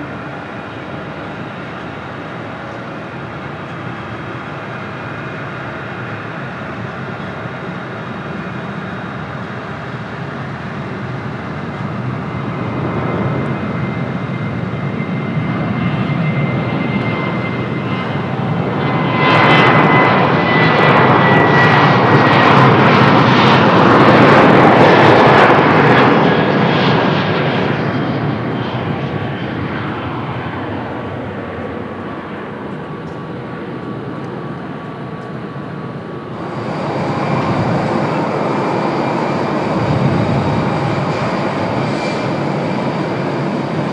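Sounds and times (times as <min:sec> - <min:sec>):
high engine whine: 0:00.0 - 0:43.9
jet engines rushing: 0:00.0 - 0:43.9.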